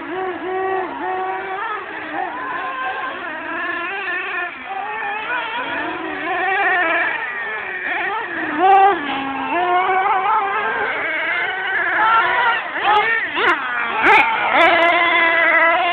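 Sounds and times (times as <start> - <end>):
remote control car motors whining: 0.0 - 15.9.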